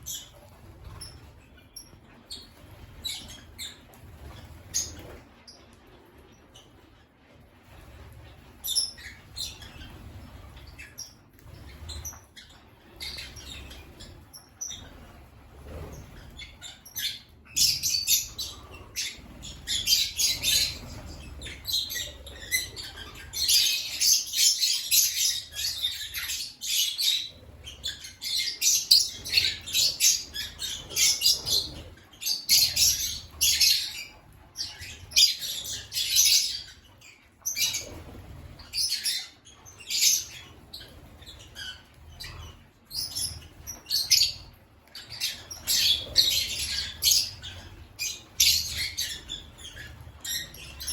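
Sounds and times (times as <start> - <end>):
lovebirds chirping and squawking: 0.0 - 50.9.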